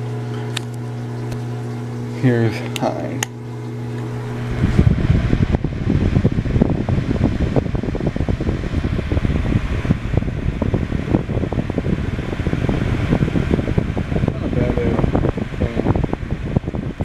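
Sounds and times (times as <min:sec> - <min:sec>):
desk fan running: 0:00.0 - 0:17.0.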